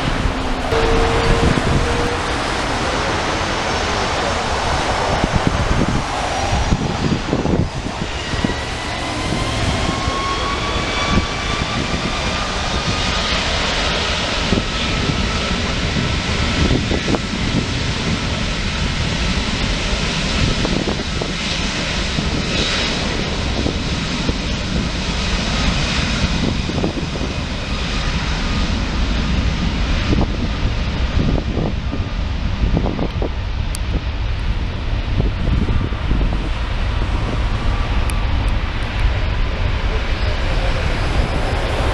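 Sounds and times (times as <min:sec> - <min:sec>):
jet airliner engines with turbine whine: 0:00.0 - 0:41.9
wind noise on microphone: 0:00.0 - 0:41.9.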